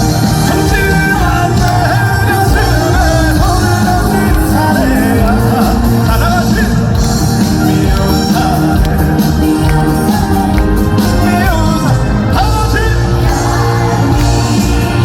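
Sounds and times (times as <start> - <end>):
man singing: 0.0 - 14.2
live backing band: 0.0 - 15.0.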